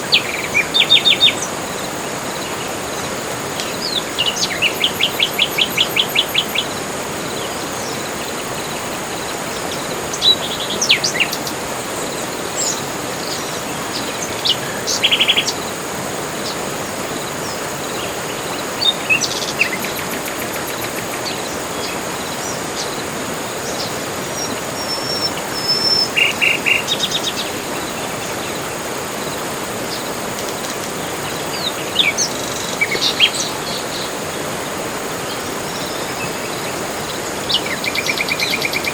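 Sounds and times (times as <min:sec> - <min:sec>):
birds calling and trilling: 0:00.0 - 0:38.9
high insect drone: 0:00.0 - 0:38.9
steady background hiss: 0:00.0 - 0:38.9.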